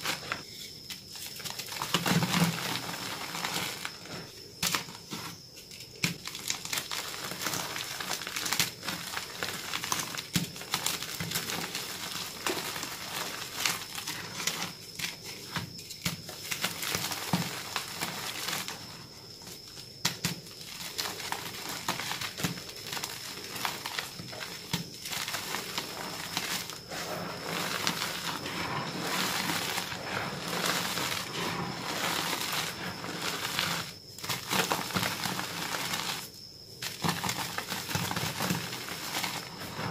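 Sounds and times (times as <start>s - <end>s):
chalk crushed and crumbling: 6.0s - 19.0s, 20.1s - 39.9s.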